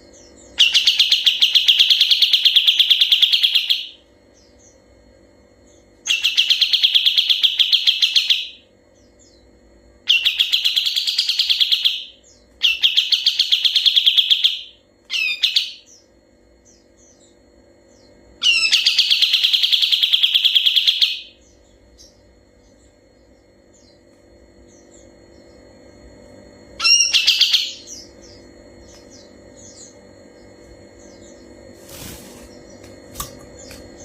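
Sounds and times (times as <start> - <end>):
bird singing rolling trills: 0.0 - 34.0.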